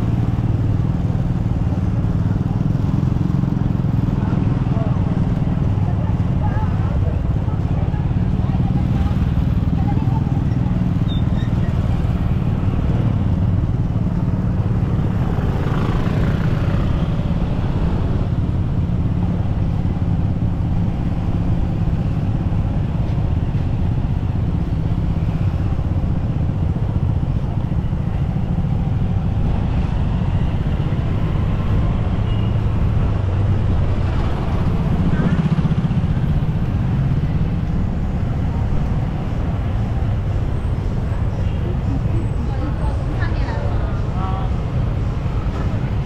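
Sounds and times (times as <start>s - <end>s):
motorcycle engine drone: 0.0s - 46.0s
road and wind noise: 0.0s - 46.0s
traffic noise: 0.0s - 46.0s.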